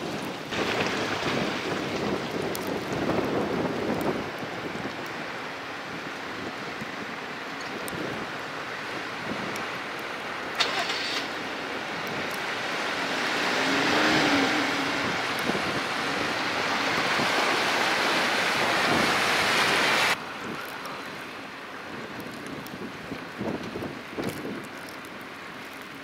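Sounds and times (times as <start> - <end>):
truck driving through flood water: 0.0 - 26.0
water washing: 0.0 - 26.0.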